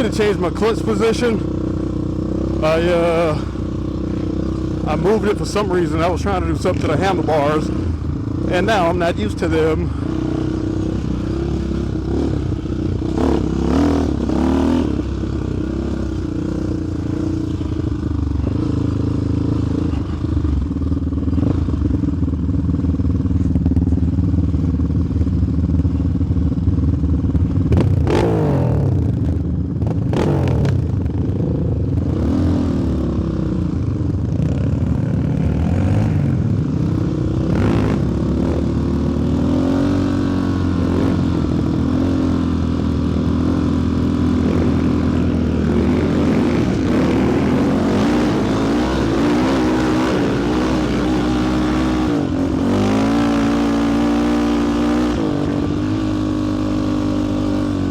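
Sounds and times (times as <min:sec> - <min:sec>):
quad engine revving: 0:00.0 - 0:17.5, 0:27.7 - 0:29.2, 0:29.9 - 0:57.9.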